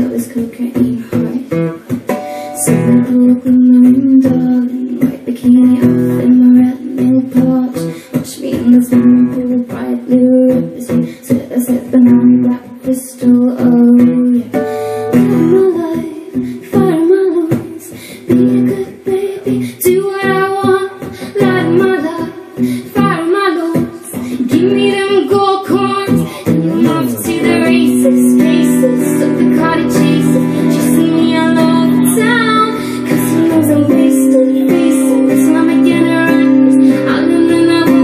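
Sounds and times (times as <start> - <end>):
strummed acoustic guitar: 0.0 - 38.0
woman singing: 0.0 - 38.0.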